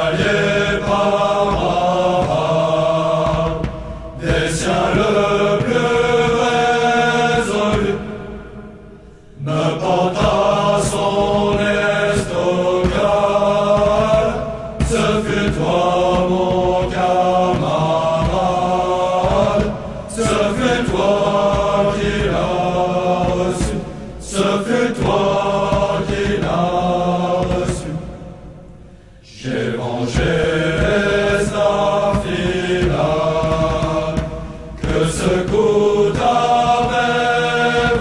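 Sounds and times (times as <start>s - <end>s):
slow chanted vocal music: 0.0s - 38.0s.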